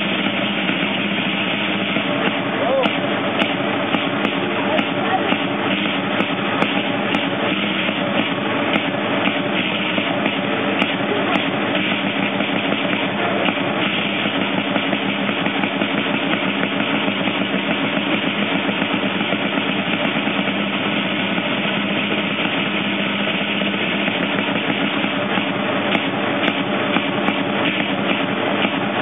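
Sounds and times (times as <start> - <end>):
drum playing rapid roll: 0.0 - 29.0.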